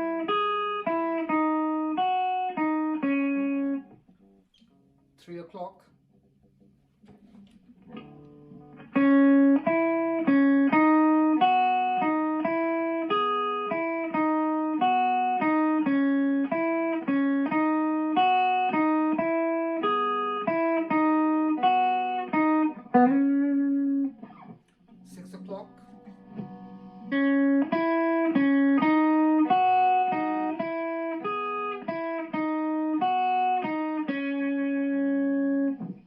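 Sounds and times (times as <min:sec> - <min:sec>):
electric guitar riff: 0:00.0 - 0:05.2, 0:05.9 - 0:36.0.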